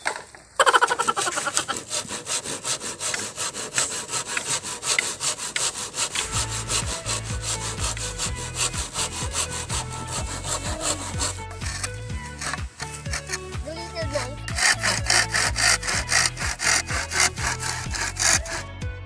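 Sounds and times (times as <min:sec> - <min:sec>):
handsaw cutting bamboo: 0:00.1 - 0:18.7.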